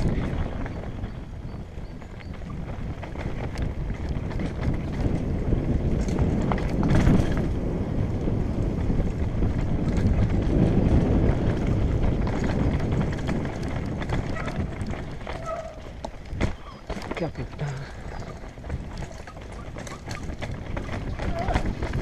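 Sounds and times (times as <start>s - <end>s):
bike rattling over bumps: 0.0s - 22.0s
wind rushing over microphone: 0.0s - 22.0s
tyres crunching over dirt: 2.0s - 22.0s.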